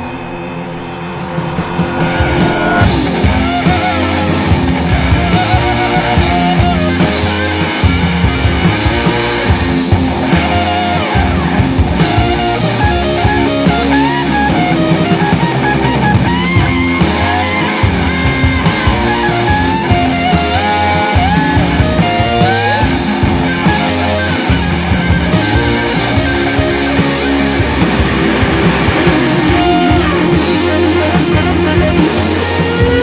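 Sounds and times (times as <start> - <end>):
loud rock music: 0.0 - 33.0.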